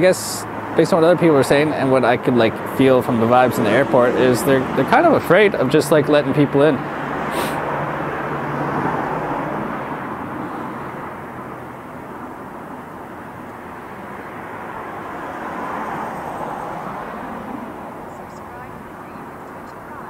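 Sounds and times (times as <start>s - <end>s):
passing traffic rush: 0.0s - 20.0s.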